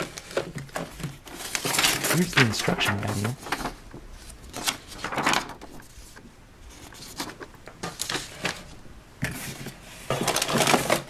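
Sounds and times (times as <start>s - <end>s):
paper rustling: 0.0s - 11.0s.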